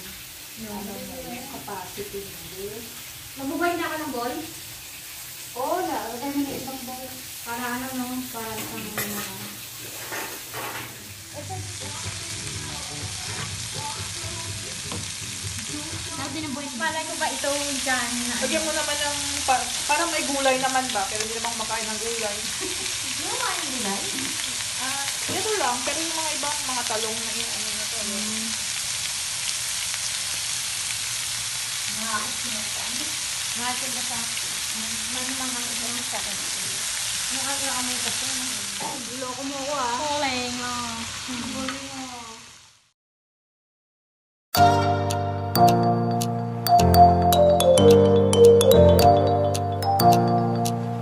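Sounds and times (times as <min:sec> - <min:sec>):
meat sizzling on grill pan: 0:00.0 - 0:42.9.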